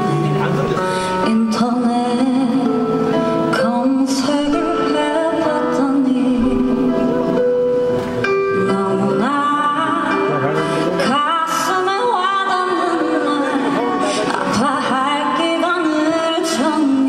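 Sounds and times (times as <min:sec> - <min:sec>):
woman singing into microphone: 0:00.0 - 0:07.7, 0:08.5 - 0:17.0
instrumental backing: 0:00.0 - 0:17.0.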